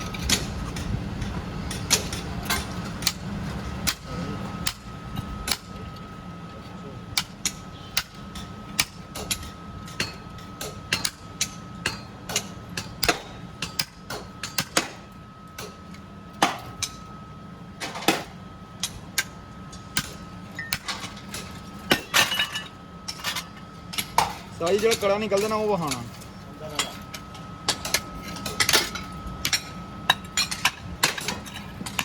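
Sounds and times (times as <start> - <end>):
machine hum with whine: 0.0 - 32.0.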